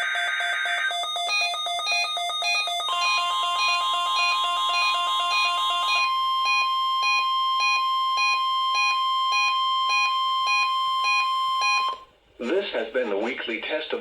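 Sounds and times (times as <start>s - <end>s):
steady alarm tone: 0.0s - 12.0s.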